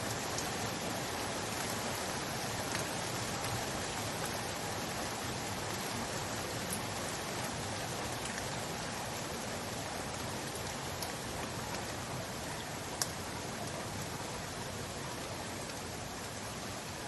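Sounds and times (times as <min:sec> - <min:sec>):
steady rain pattering: 0:00.0 - 0:17.0.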